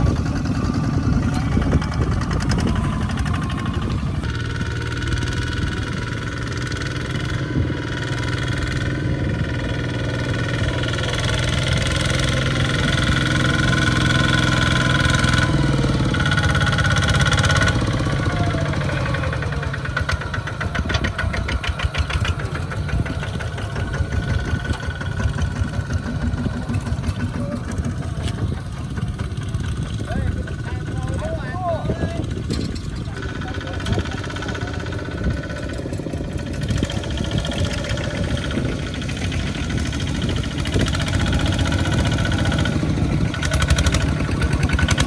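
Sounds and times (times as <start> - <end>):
tractor engine chugging: 0.0 - 45.0.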